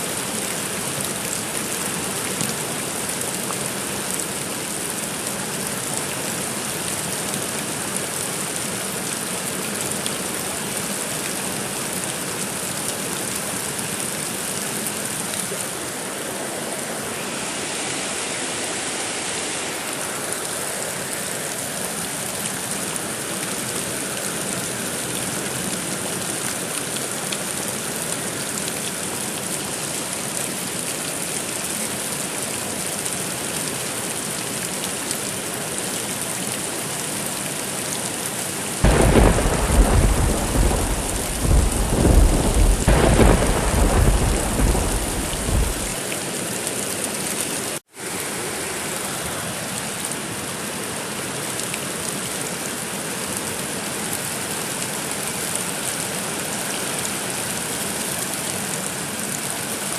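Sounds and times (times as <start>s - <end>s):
steady heavy rain: 0.0s - 59.9s.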